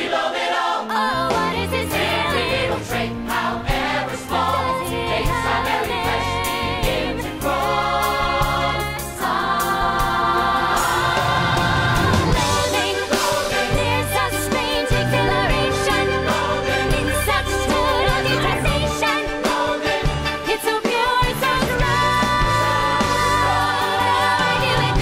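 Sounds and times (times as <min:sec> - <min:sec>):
orchestra with singing voices: 0:00.0 - 0:25.0.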